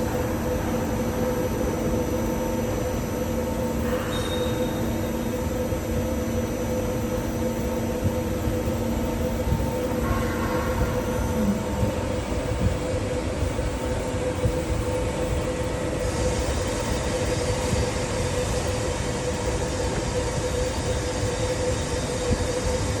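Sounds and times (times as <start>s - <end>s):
milling machine droning: 0.0s - 23.0s.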